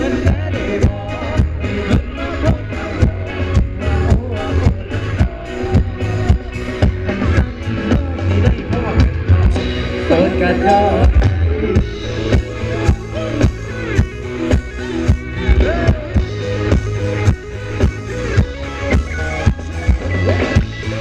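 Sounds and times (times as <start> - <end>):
live band dance music: 0.0 - 21.0.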